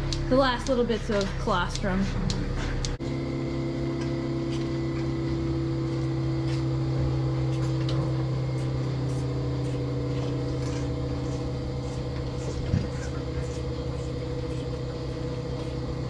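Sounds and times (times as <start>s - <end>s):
milking machinery humming: 0.0s - 16.0s.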